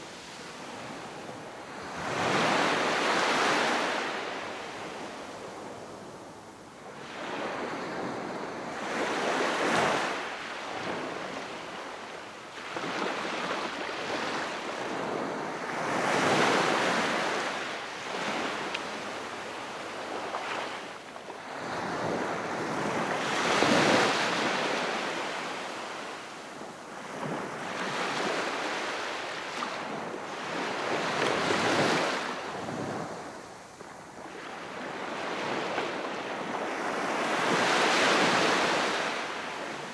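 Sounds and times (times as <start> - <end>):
gentle sea waves on shore: 0.0 - 39.9.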